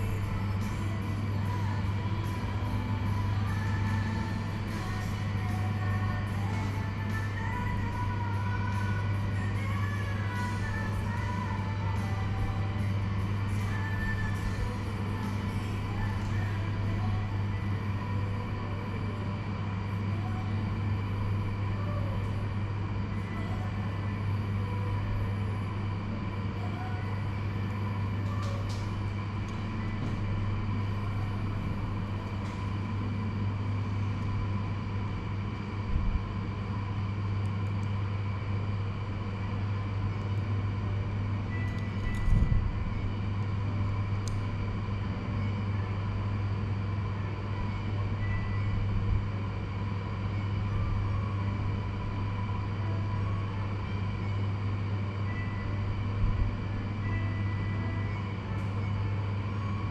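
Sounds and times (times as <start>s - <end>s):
low mechanical hum: 0.0s - 59.9s.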